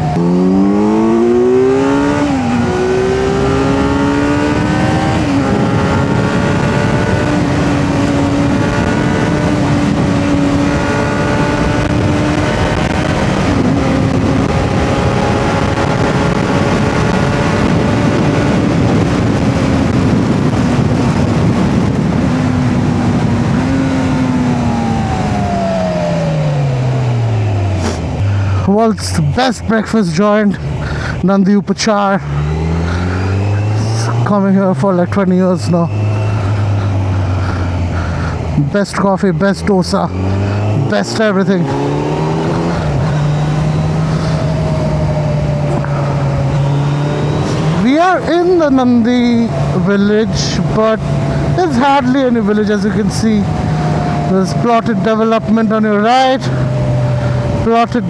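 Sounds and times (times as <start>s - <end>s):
motorcycle engine accelerating: 0.0s - 58.0s
wind noise: 0.0s - 58.0s.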